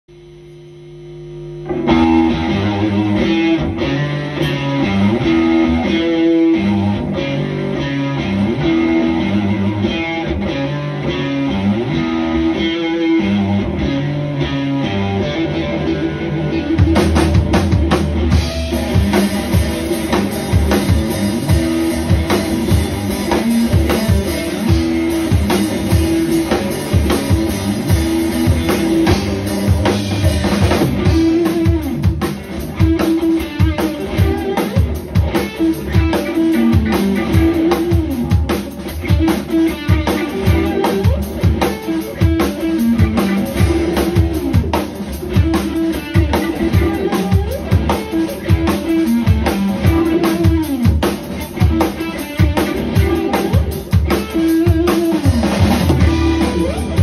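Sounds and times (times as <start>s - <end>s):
electric guitar: 0.1s - 57.0s
drum kit: 1.5s - 57.0s.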